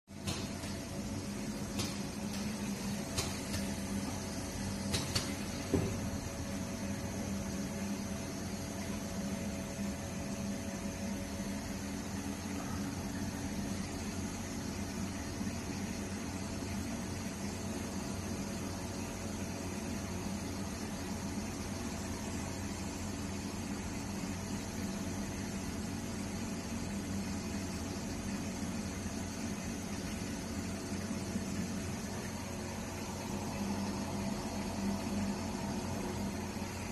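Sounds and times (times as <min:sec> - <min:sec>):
machine humming: 0:00.1 - 0:36.9.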